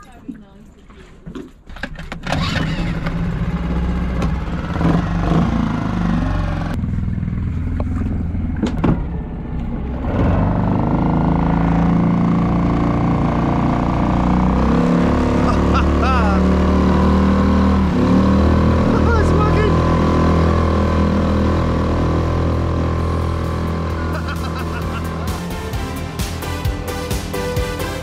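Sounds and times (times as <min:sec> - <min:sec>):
outboard motor running: 0:02.2 - 0:09.0, 0:09.7 - 0:26.9.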